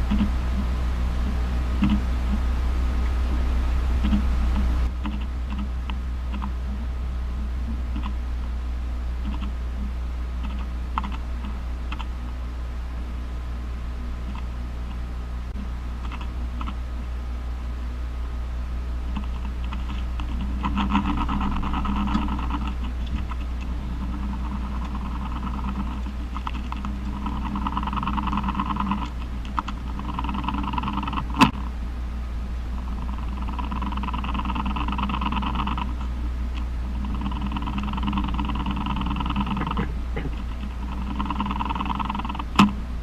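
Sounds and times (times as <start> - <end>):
rapid ticking buzzes: 0.0 - 17.0, 18.2 - 43.0
steady low hum: 0.0 - 43.0.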